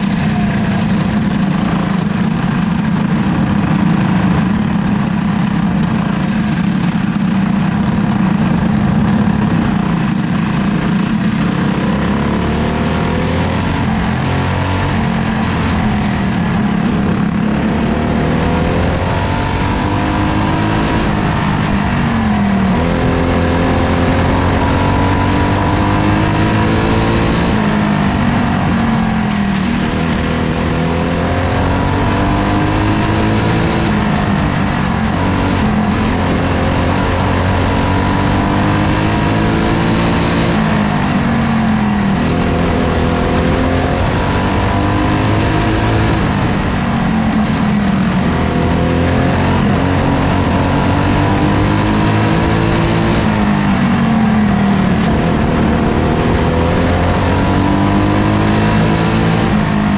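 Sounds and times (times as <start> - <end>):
race car engine accelerating: 0.0 - 59.9
wind and track noise: 0.0 - 59.9.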